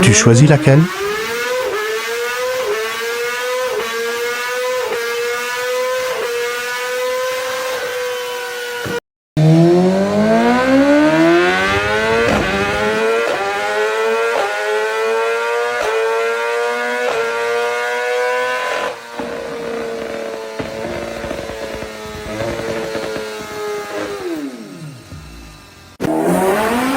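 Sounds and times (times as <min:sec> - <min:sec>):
motorcycle engine accelerating through gears: 0:00.0 - 0:26.9.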